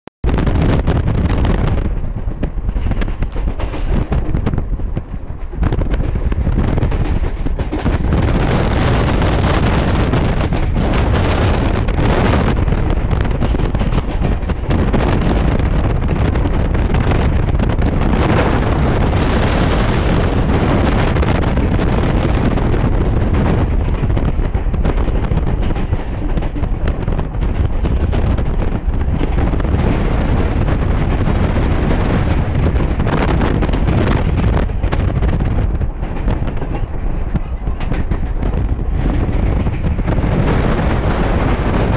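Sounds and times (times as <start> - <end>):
electric train rumbling: 0.2 - 41.9
wind buffeting on microphone: 0.2 - 41.9.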